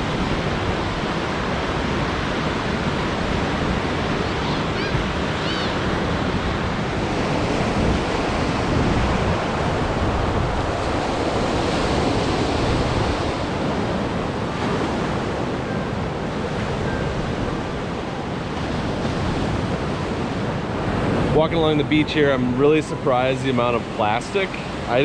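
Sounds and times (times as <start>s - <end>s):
wind buffeting microphone: 0.0s - 23.0s
surf washing onto beach: 0.0s - 25.0s.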